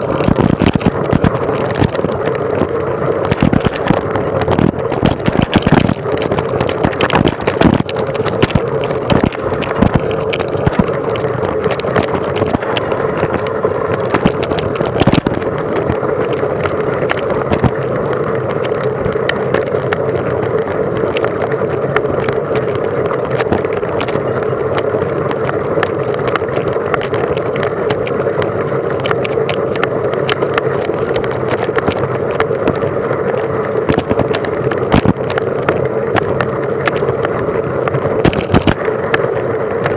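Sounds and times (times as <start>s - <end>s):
bike rattling: 0.0s - 39.9s
wind on microphone: 0.0s - 39.9s.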